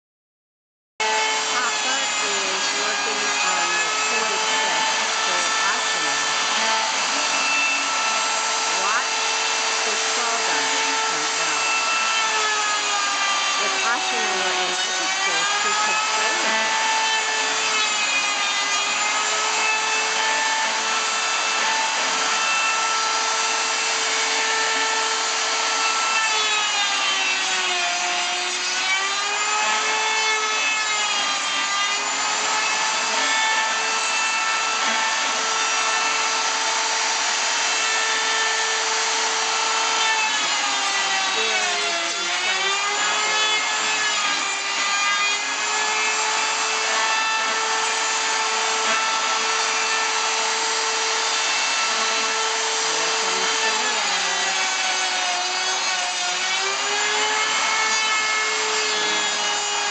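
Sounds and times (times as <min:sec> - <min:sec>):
electric saw cutting wood: 0:01.0 - 0:59.9.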